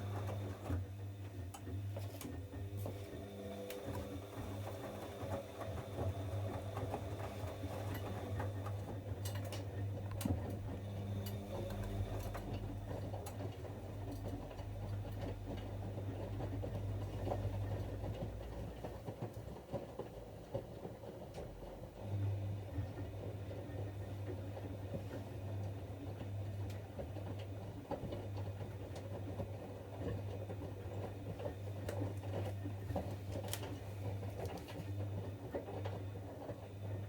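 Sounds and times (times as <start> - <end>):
washing machine drum humming: 0.0 - 37.0.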